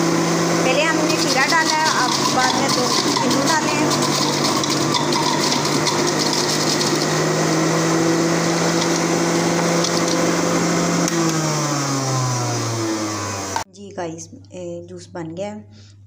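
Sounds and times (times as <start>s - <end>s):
electric juicer motor running: 0.0s - 13.7s.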